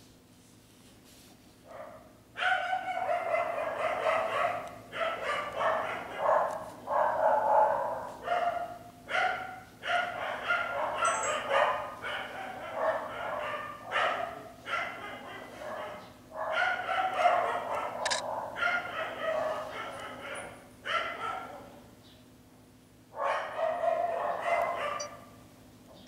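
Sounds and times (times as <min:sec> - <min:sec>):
dog barking and yapping: 0:01.7 - 0:21.8, 0:23.2 - 0:25.3.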